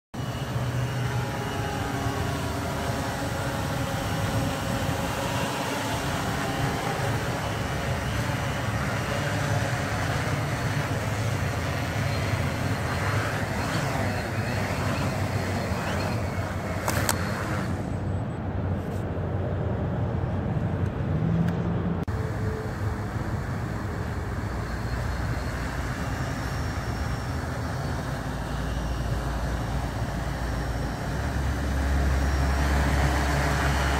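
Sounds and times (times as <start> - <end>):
drone propellers droning: 0.1 - 33.9.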